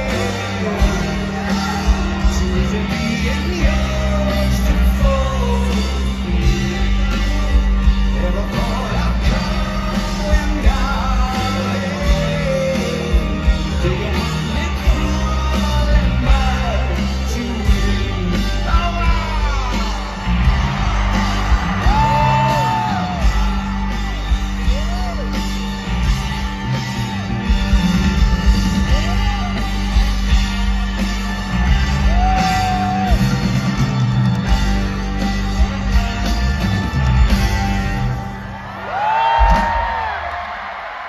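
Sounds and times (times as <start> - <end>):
bass: 0.0 - 40.8
crowd yelling: 0.0 - 41.0
drums: 0.0 - 41.0.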